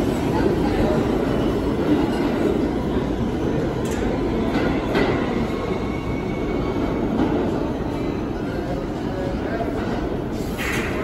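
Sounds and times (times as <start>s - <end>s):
subway train running on track: 0.0s - 11.0s.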